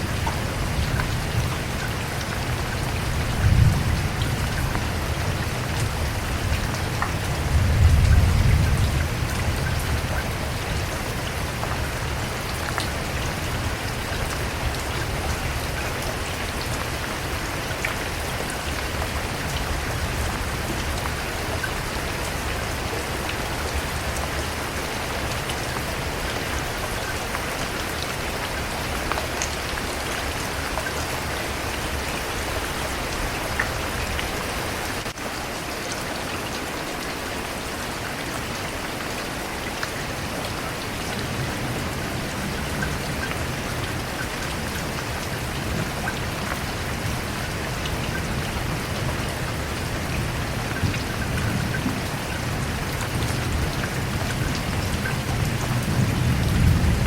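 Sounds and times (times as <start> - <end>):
rain drops pattering: 0.0 - 57.0.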